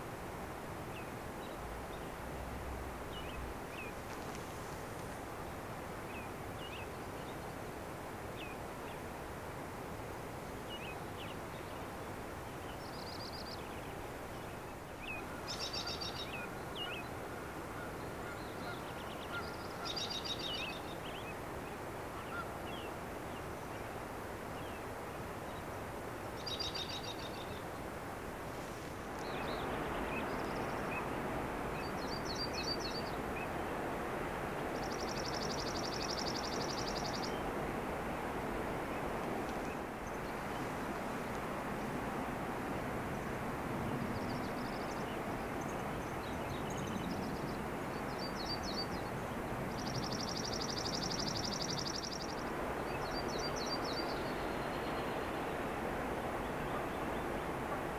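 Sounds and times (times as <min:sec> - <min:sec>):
outdoor background hiss: 0:00.0 - 0:57.9
songbirds chirping and trilling: 0:00.8 - 0:09.1, 0:10.6 - 0:57.9.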